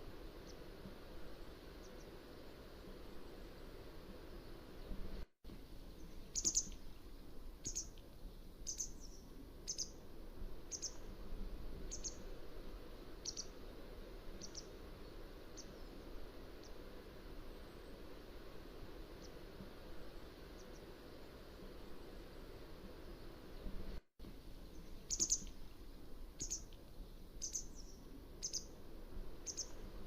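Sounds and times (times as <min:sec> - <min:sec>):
low background hiss: 0:00.0 - 0:30.0.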